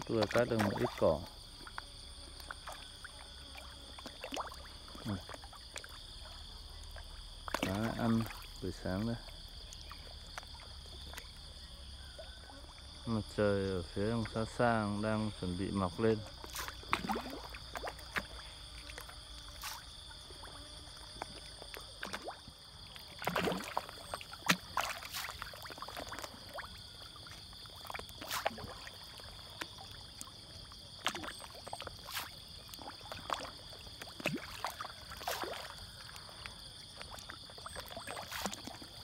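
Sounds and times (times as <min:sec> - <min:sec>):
fish splashing and gulping: 0:00.0 - 0:13.0, 0:13.8 - 0:39.0
high chorus of insects: 0:00.0 - 0:39.0.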